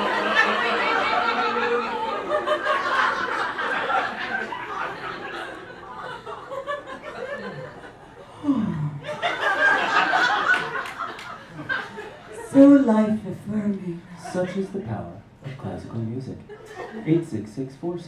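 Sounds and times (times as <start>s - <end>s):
audience laughing: 0.0s - 12.8s, 14.1s - 17.5s.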